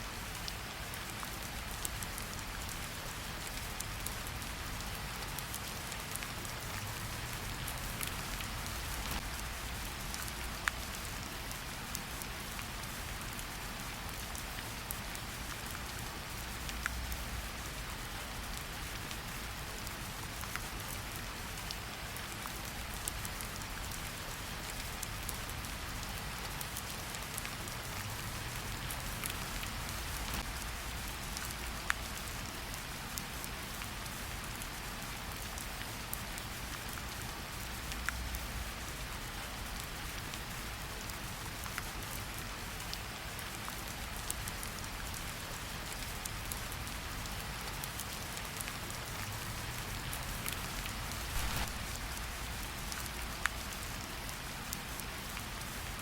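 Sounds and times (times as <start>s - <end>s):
rain falling in a forest: 0.0s - 56.0s.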